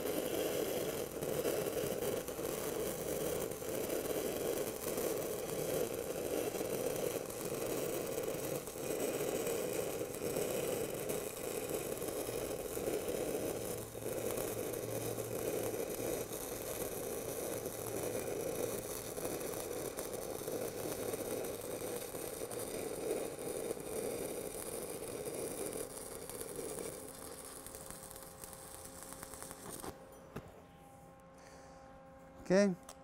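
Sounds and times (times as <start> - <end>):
welding arc crackling: 0.0 - 30.2.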